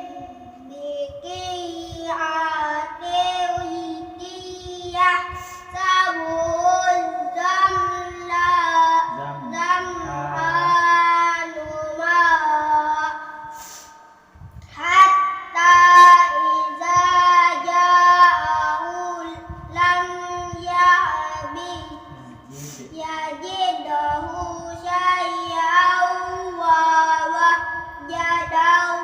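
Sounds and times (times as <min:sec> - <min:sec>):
person chanting recitation: 0:00.0 - 0:13.4, 0:14.8 - 0:29.0.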